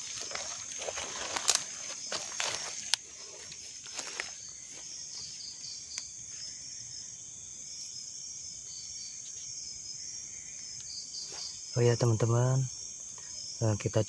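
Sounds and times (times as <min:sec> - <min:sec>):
crickets and insects chirping: 0:00.0 - 0:14.0.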